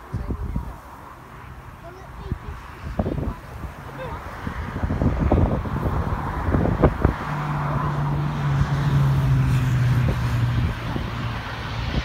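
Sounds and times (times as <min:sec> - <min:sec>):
wind gusting on microphone: 0:00.0 - 0:12.0.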